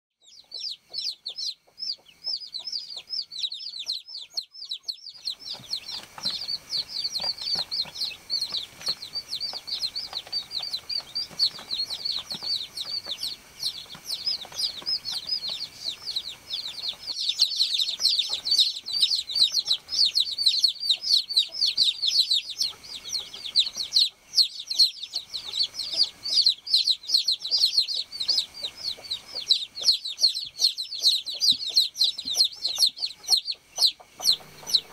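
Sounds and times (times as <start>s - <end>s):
baby chicks peeping: 0.2s - 34.9s.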